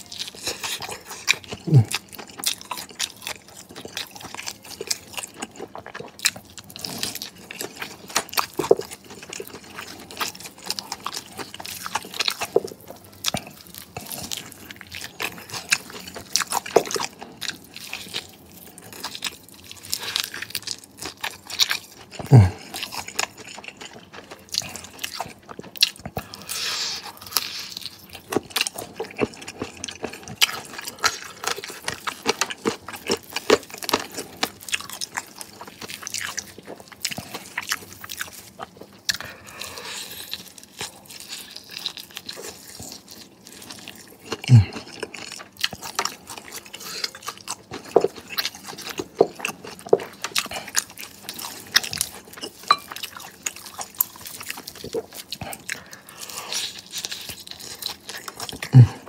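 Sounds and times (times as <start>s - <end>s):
crunching fried chicken: 0.0s - 59.0s
wet chewing: 0.0s - 59.0s.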